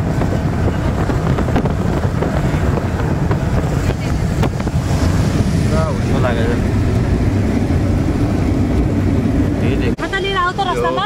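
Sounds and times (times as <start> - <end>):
wind buffeting the microphone: 0.0 - 10.0
car road rumble: 0.0 - 11.0.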